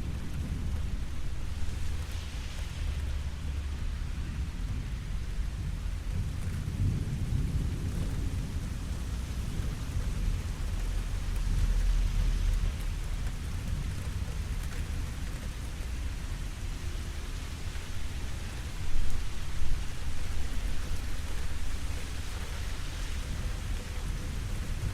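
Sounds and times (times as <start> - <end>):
low rumble of thunder: 0.0 - 24.9
steady rainfall: 0.0 - 24.9.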